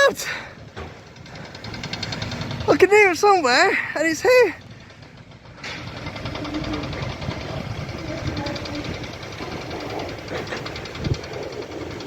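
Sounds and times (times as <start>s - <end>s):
roller coaster train rattling: 0.0s - 12.0s.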